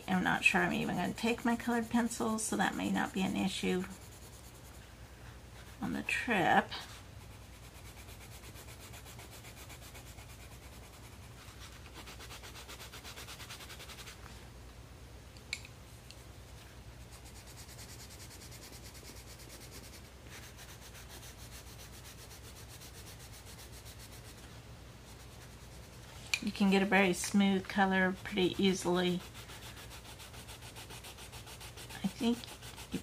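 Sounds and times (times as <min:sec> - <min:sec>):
colored pencils scratching on paper: 0:00.0 - 0:04.8, 0:05.6 - 0:14.3, 0:17.0 - 0:33.0.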